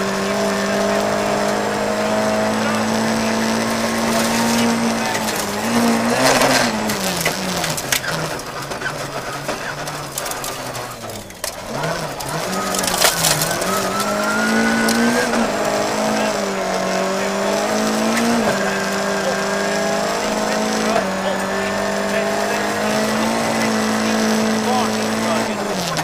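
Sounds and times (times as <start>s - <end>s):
car engine revving and downshifting: 0.0s - 26.0s.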